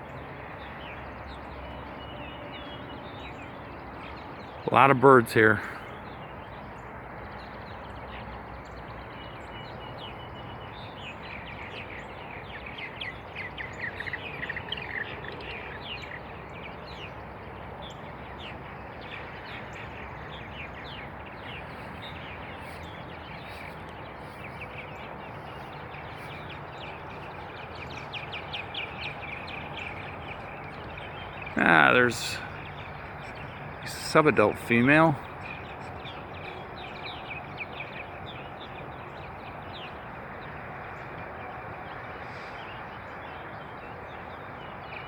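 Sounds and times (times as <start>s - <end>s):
birds chirping and chattering: 0.4s - 45.0s.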